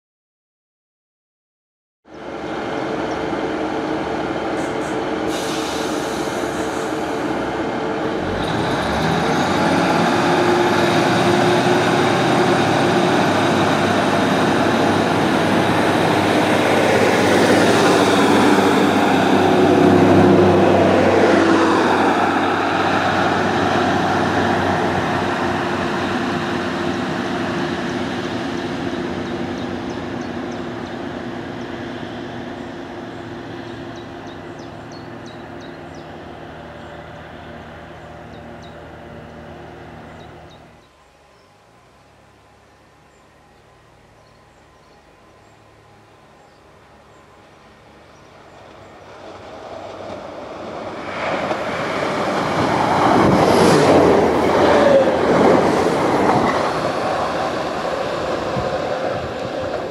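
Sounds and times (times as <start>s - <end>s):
diesel train engines accelerating: 2.1s - 59.9s.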